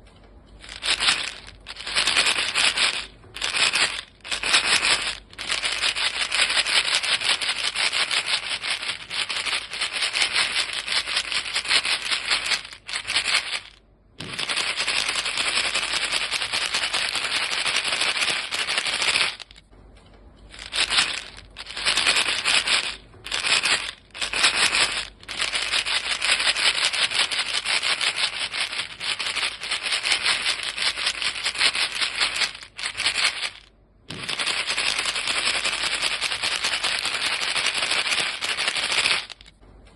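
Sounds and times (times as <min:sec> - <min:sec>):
gum pellets rattling in box: 0:00.6 - 0:19.7, 0:20.5 - 0:39.6.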